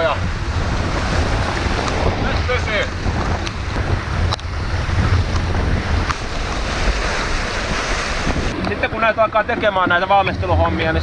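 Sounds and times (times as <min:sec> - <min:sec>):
waves rushing along hull: 0:00.0 - 0:11.0
wind buffeting microphone: 0:00.0 - 0:11.0.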